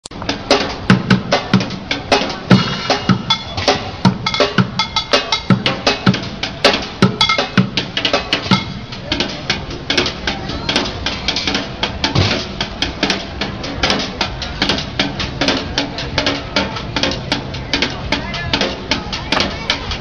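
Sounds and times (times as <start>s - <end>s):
drumming on plastic buckets: 0.2s - 20.0s.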